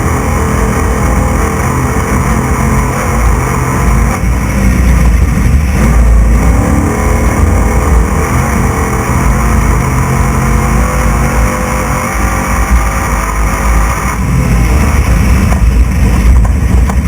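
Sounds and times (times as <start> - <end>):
dense noise: 0.0 - 17.0
truck engine revving loudly: 0.0 - 17.0.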